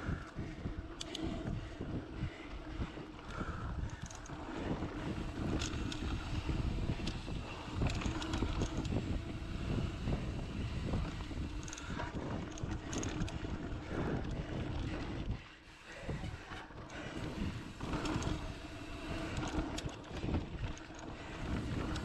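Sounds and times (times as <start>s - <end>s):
bike knocking and rattling: 0.0s - 22.0s
wind rushing over microphone: 0.0s - 22.0s.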